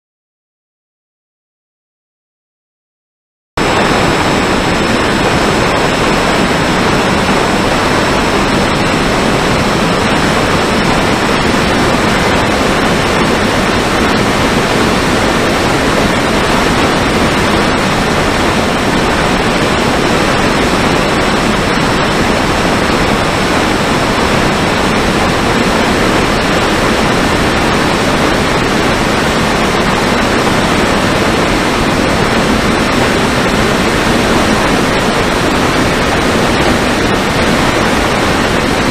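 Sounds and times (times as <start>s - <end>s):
electric motor and propeller noise: 3.6s - 38.9s
rush of airflow: 3.6s - 38.9s.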